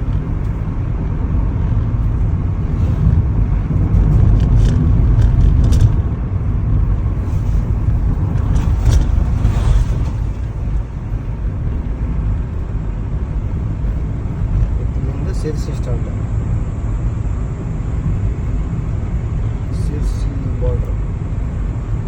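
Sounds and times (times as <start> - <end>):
car driving low rumble: 0.0 - 22.0.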